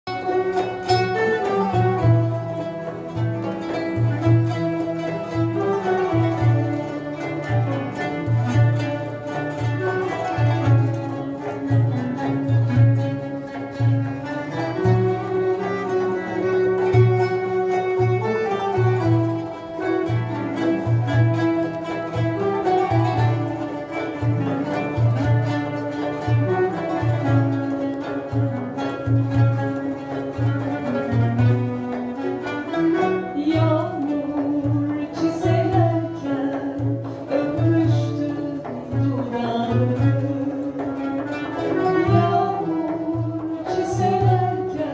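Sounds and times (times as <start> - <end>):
strings and guitar melody: 0.0 - 44.9.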